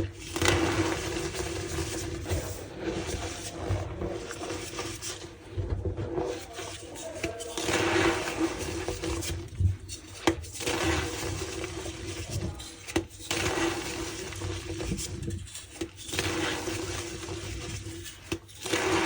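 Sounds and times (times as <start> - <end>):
chalk squeaking and crumbling: 0.0 - 5.5, 6.2 - 19.0.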